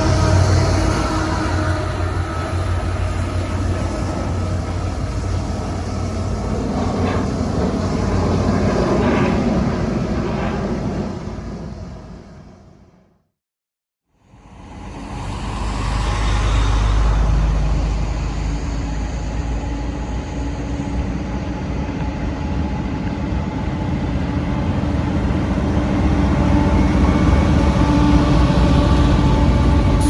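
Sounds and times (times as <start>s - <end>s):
train rumbling past: 0.0s - 12.9s, 14.2s - 30.0s.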